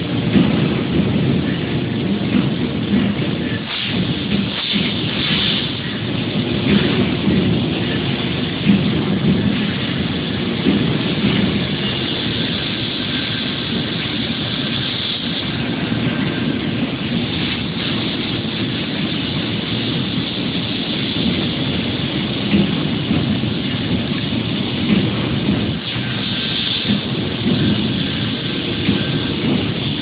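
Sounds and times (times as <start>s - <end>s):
laser cutter rushing noise: 0.0s - 30.0s.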